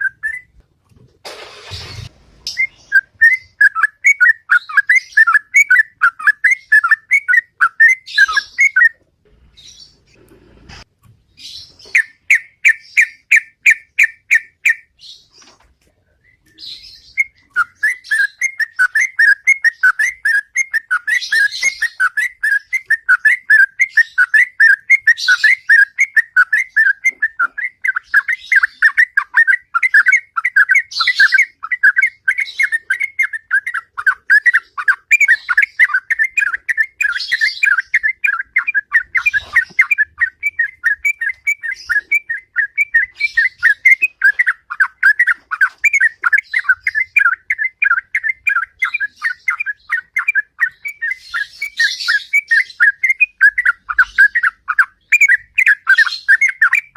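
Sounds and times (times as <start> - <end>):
bird whistled song: 0.0 - 0.6, 1.7 - 9.0, 11.4 - 15.3, 16.2 - 56.9
rough higher bird chirp: 0.0 - 0.6, 1.5 - 56.9.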